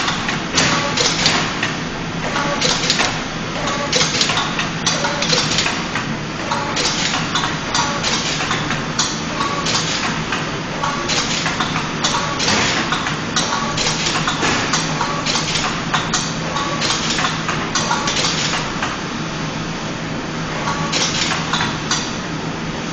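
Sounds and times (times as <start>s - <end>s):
clatter of clicks and clacks: 0.0s - 19.0s.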